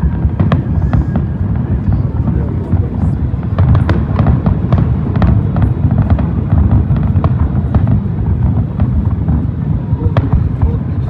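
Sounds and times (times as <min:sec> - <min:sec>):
fireworks bursting rumble: 0:00.0 - 0:11.0
fireworks cracks and pops: 0:00.0 - 0:11.0.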